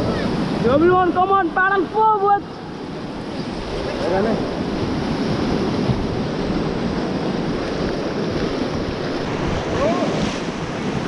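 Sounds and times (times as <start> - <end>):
river rapid rushing: 0.0 - 11.0
wind buffeting microphone: 0.0 - 11.0.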